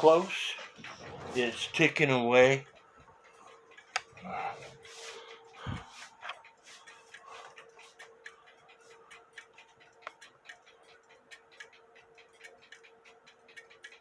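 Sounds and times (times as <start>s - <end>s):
clock ticking faintly: 0.0s - 14.0s
faint steady hum: 0.0s - 14.0s.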